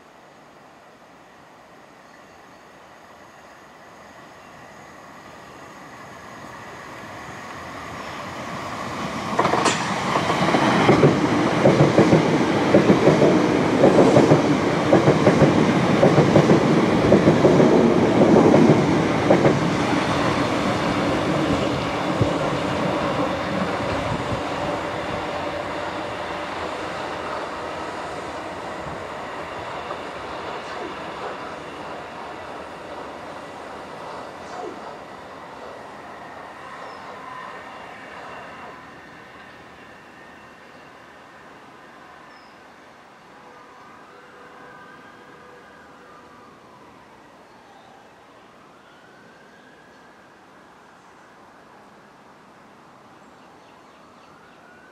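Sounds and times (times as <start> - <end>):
electric train passing: 0.0 - 53.2.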